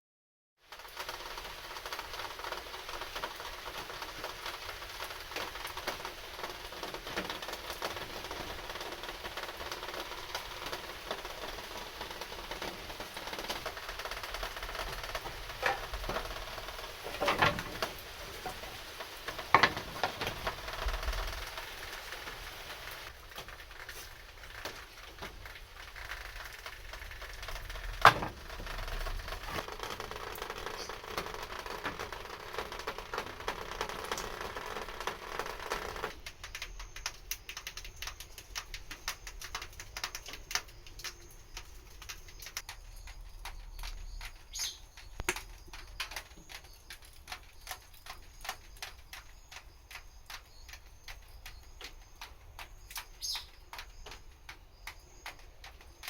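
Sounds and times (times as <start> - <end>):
wood fire crackling in a stove: 0.6 - 56.0.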